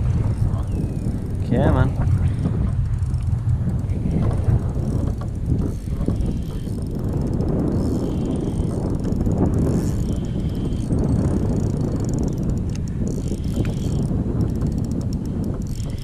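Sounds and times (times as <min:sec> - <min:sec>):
fishing reel ticking and whirring: 0:00.0 - 0:16.0
wind rumble on microphone: 0:00.0 - 0:16.0.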